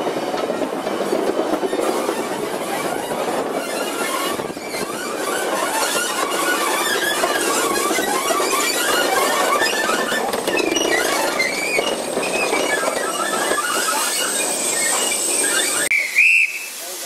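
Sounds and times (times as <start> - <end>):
train running rumble: 0.0 - 15.9
train wheels squealing: 0.5 - 16.7.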